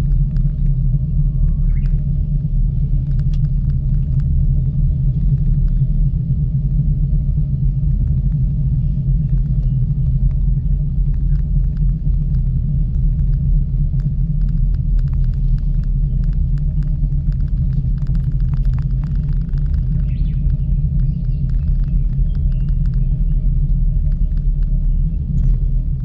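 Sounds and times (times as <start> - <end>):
light clicks and rattles: 0.0 - 2.2, 2.8 - 6.8, 7.8 - 26.0
faint steady hum: 0.0 - 26.0
gondola low rumble: 0.0 - 26.0.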